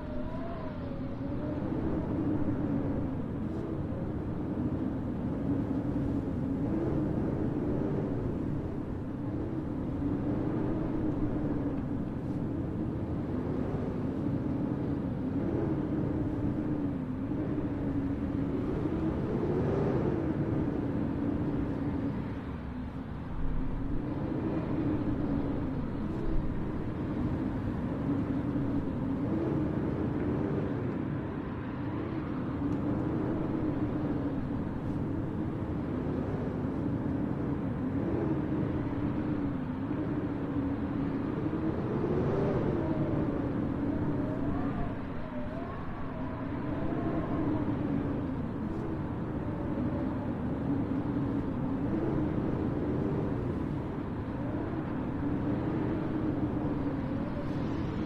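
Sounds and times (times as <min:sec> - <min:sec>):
blizzard wind moaning: 0:00.0 - 0:58.0.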